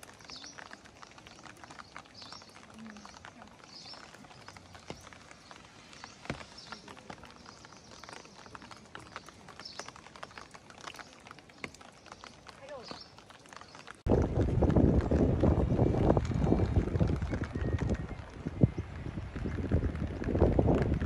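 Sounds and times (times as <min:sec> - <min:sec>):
rain pattering on water and leaves: 0:00.0 - 0:21.0.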